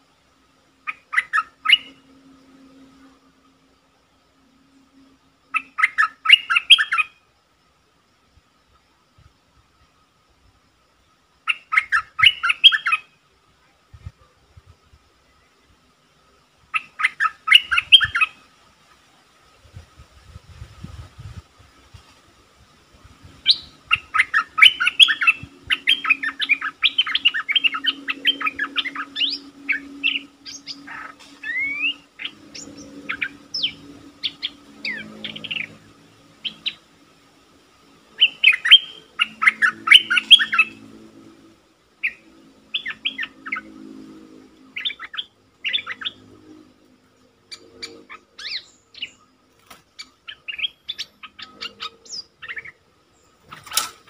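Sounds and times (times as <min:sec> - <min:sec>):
bird chirping song: 0:00.0 - 0:07.3, 0:10.9 - 0:21.5, 0:22.8 - 0:54.0.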